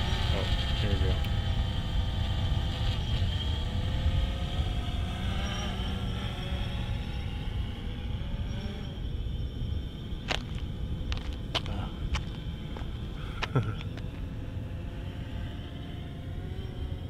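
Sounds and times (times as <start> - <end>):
drone propellers whining: 0.0 - 17.0
wind rumble on microphone: 0.0 - 17.0.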